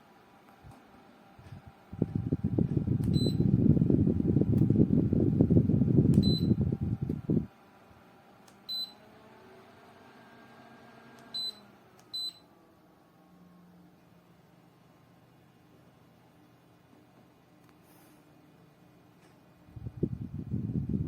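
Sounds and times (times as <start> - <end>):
fan airflow buffeting microphone: 0.0 - 12.0, 15.2 - 21.0.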